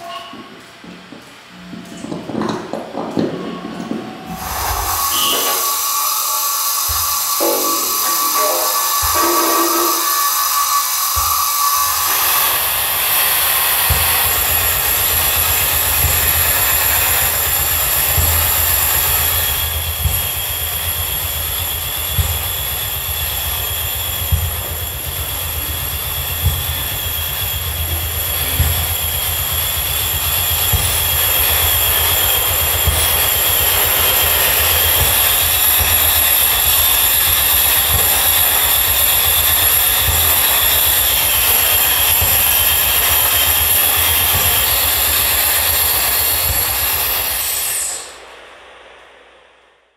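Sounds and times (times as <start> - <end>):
whistling feedback tones: 0.0 - 0.7, 3.4 - 48.4
electronic noise drone: 3.1 - 48.9.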